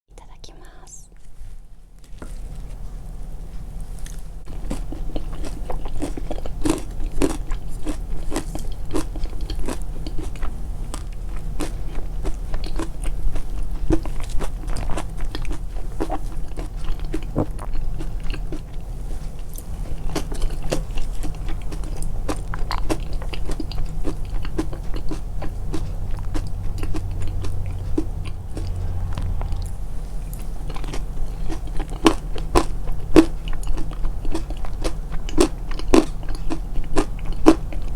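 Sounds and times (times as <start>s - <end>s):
crunchy food chewing: 2.0s - 37.9s.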